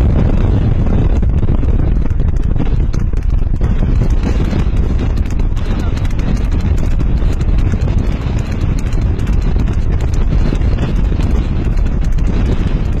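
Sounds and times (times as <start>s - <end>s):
hooves clattering on asphalt: 0.0s - 13.0s
wind on microphone: 0.0s - 13.0s.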